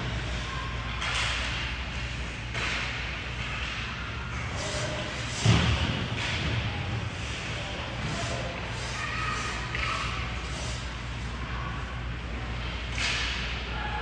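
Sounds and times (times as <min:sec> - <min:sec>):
court and crowd noise: 0:00.0 - 0:14.0.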